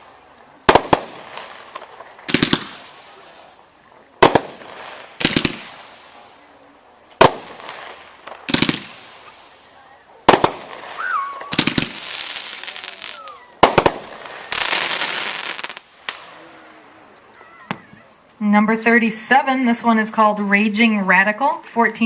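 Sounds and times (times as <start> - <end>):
dense firework crackling: 0.0 - 18.3
firework sharp reports: 0.0 - 22.0.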